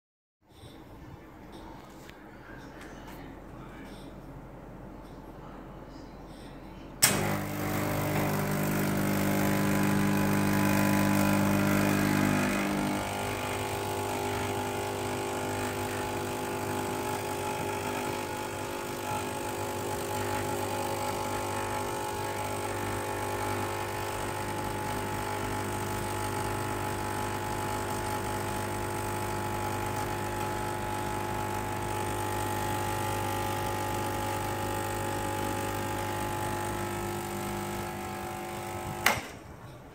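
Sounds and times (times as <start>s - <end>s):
espresso machine pump humming: 7.0s - 39.2s.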